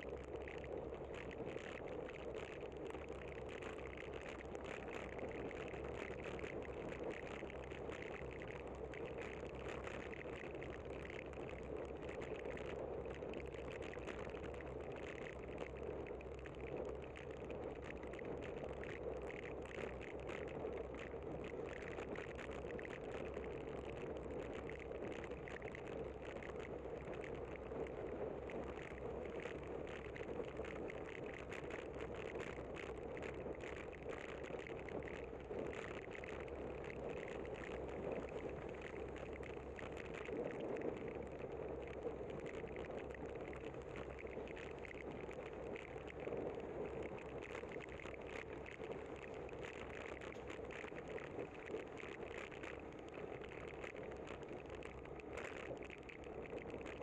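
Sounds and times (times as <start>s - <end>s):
small ticks: 0.0s - 57.0s
wind: 0.0s - 57.0s.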